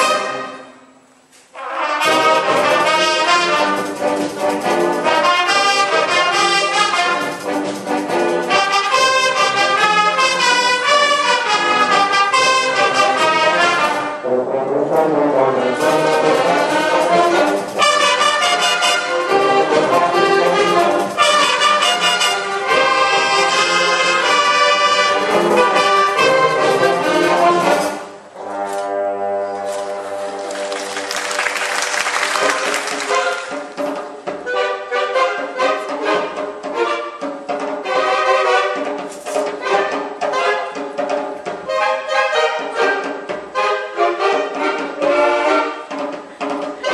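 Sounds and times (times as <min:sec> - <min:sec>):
marching band brass playing: 0:00.0 - 0:46.9.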